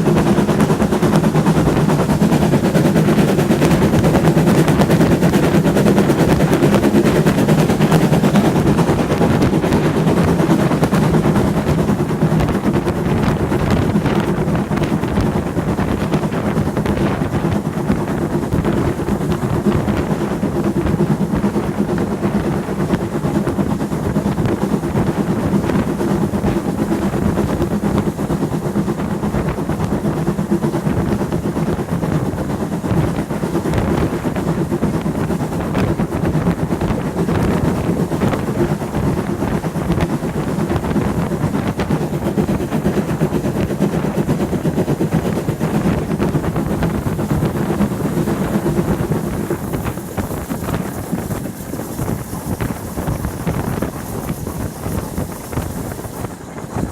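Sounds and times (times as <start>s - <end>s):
steam train rumbling: 0.0s - 56.9s
wind noise: 0.0s - 56.9s.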